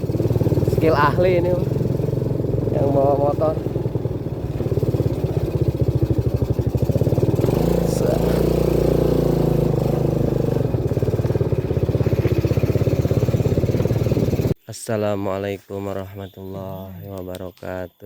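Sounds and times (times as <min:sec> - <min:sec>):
motorcycle engine under load: 0:00.0 - 0:14.6.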